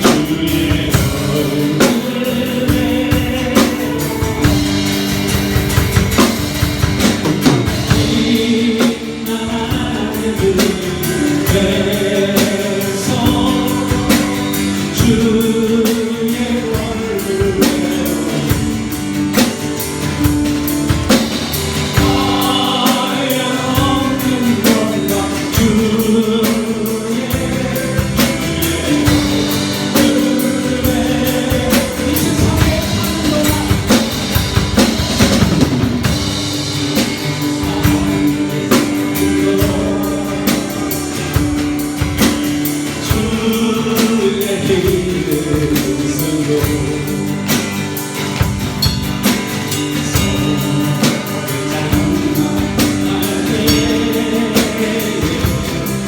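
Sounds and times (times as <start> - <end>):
band with drums: 0.0 - 56.0
voices singing: 0.0 - 56.0.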